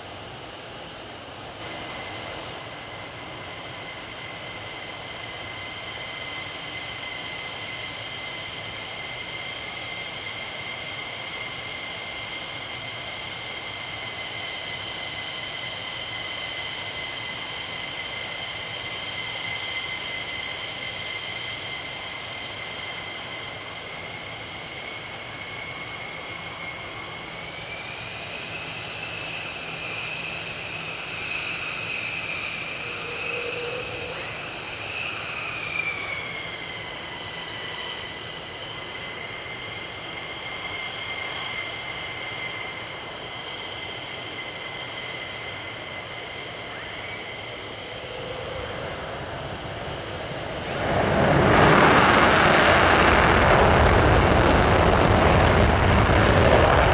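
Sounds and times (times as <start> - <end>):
jet engines whining: 0.0 - 56.9.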